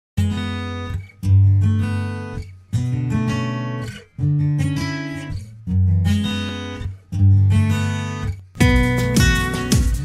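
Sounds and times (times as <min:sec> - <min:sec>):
acoustic guitar strumming chords: 0:00.2 - 0:10.0.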